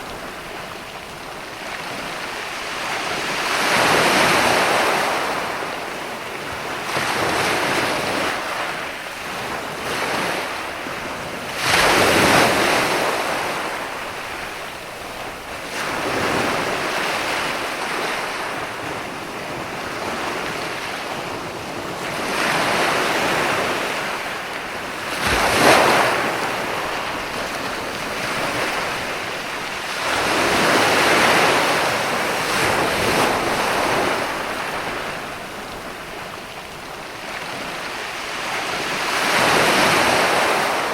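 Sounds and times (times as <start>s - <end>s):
ocean waves breaking: 0.0s - 40.9s
wind noise on microphone: 0.0s - 40.9s.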